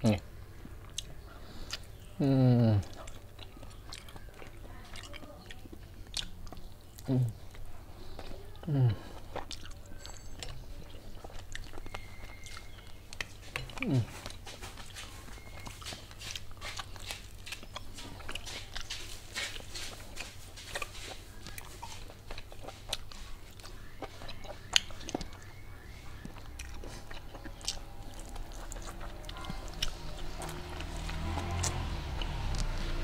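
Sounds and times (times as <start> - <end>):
person chewing and lip-smacking: 0.6 - 33.0.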